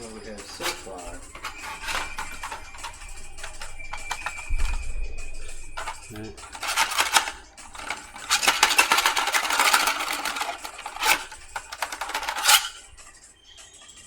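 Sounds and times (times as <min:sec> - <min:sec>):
plastic parts clattering: 0:00.0 - 0:13.1.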